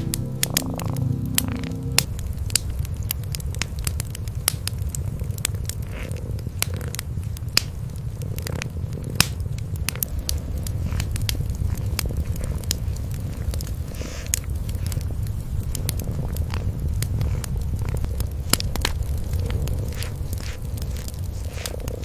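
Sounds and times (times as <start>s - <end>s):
cats purring: 0.0s - 2.2s, 2.8s - 22.0s
wood fire crackling and popping: 0.0s - 22.0s.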